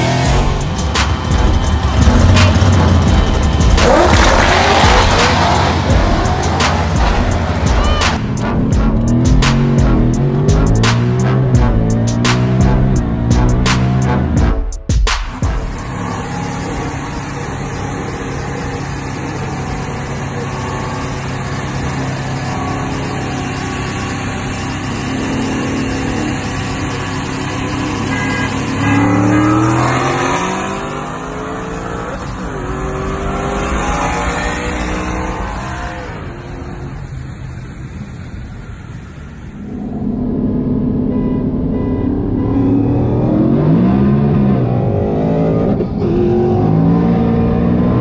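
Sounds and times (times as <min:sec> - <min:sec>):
car engine accelerating hard: 0:00.0 - 0:14.6, 0:15.3 - 0:48.0.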